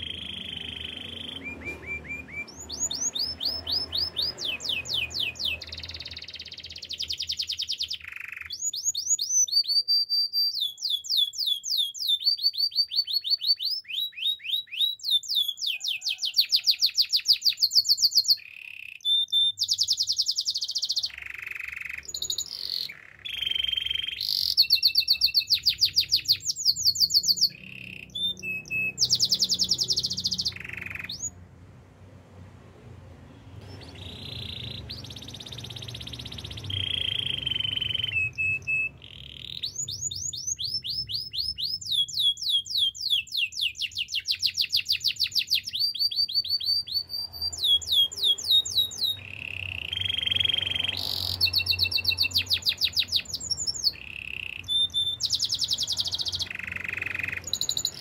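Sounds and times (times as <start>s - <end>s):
canary singing trills: 0.0s - 31.4s, 33.6s - 58.0s.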